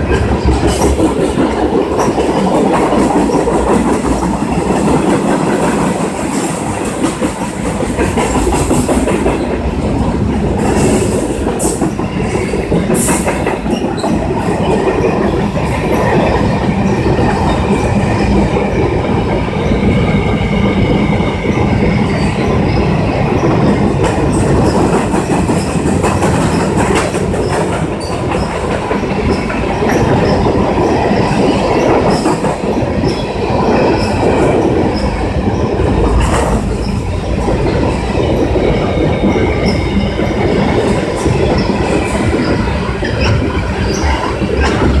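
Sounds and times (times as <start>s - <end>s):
rail cars rumbling past: 0.0s - 45.0s.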